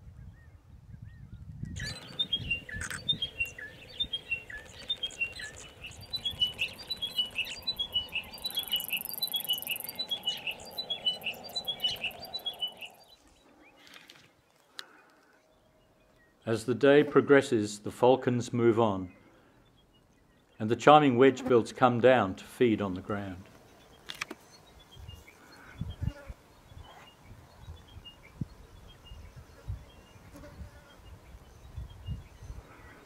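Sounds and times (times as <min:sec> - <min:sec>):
bird song: 0:00.0 - 0:17.4, 0:18.8 - 0:21.6, 0:22.8 - 0:33.0.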